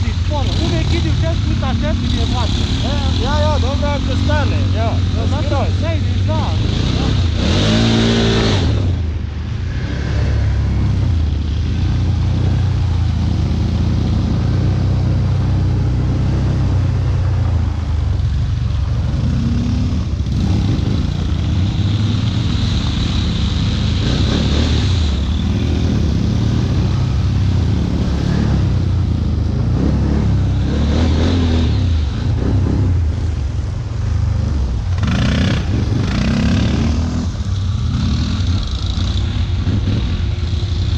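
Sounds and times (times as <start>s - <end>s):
quad bike engine revving: 0.0s - 18.2s, 18.8s - 33.2s, 34.2s - 40.9s.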